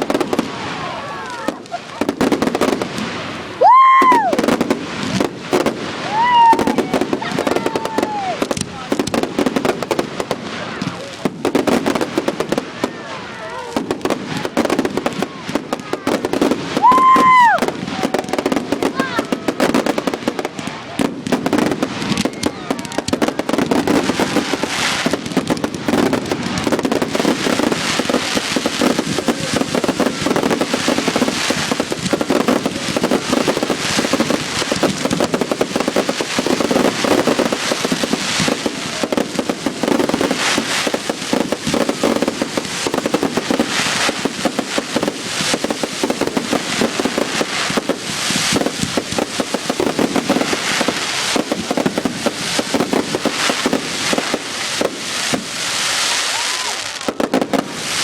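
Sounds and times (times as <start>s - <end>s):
fireworks crackling bangs: 0.0s - 58.0s.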